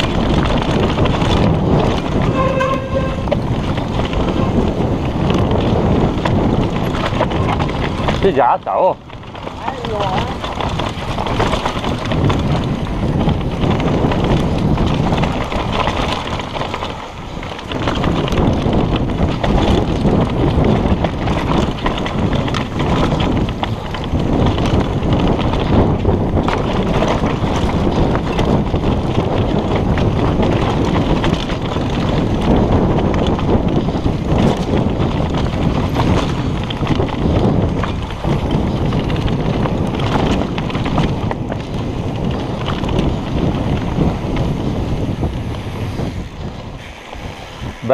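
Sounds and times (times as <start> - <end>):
bike rattling: 0.0 - 47.9
bike tyres crunching on dirt: 0.0 - 47.9
wind rush on microphone: 0.0 - 47.9.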